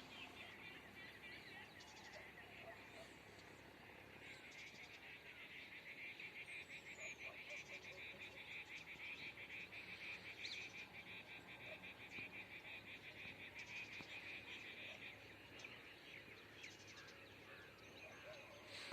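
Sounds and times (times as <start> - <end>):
frogs calling in a pulsing trill: 0.0 - 18.9.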